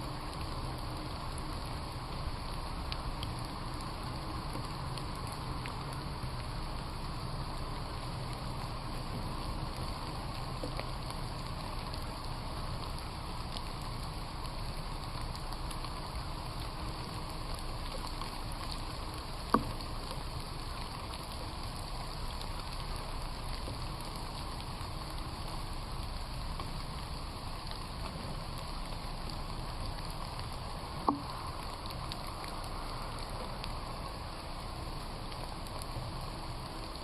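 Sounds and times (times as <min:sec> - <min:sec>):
rain on leaves: 0:00.0 - 0:37.0.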